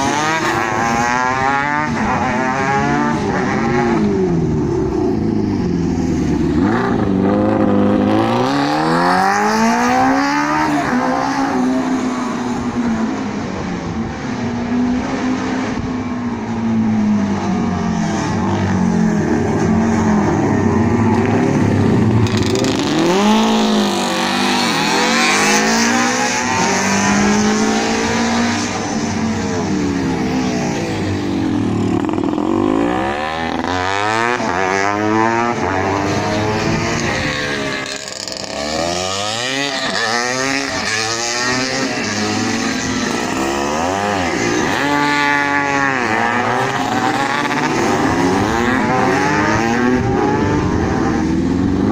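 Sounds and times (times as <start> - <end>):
drone of motorcycles: 0.0 - 51.9
racing motorcycles passing: 0.0 - 51.9.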